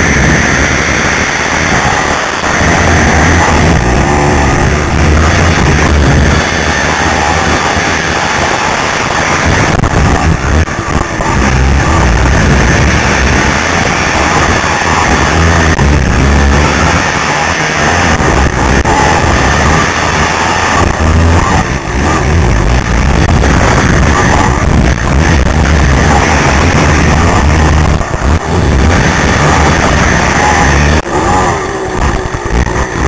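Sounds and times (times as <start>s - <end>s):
quad engine running hard: 0.0s - 33.0s
rock music: 0.0s - 33.0s
wind noise on microphone: 0.0s - 33.0s.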